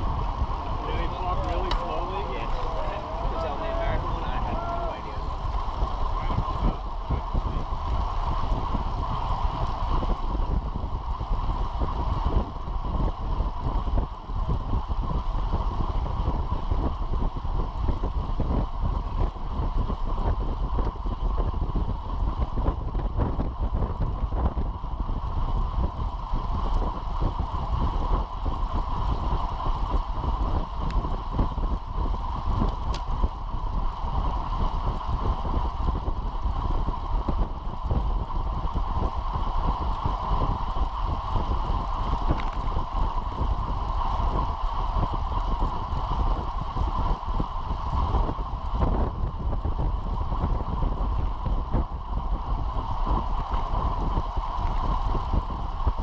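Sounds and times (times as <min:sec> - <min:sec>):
tyres rumbling on asphalt: 0:00.0 - 0:56.0
wind buffeting microphone: 0:00.0 - 0:56.0.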